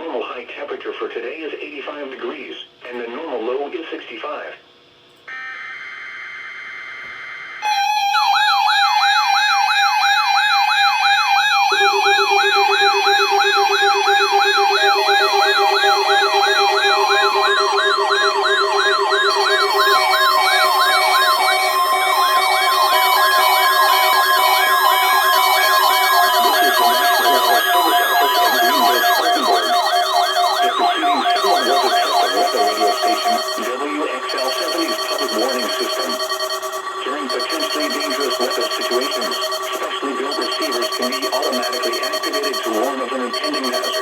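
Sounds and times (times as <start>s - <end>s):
steady beeping tones: 5.2s - 44.0s
buzzy digital data tone: 5.3s - 44.0s
warbling alarm wails: 5.3s - 44.0s.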